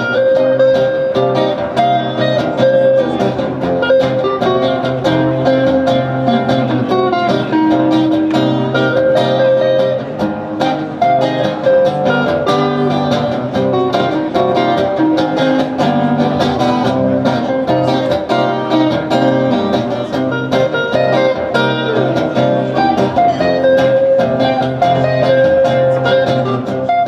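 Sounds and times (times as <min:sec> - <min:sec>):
guitar plucked notes: 0:00.0 - 0:27.0.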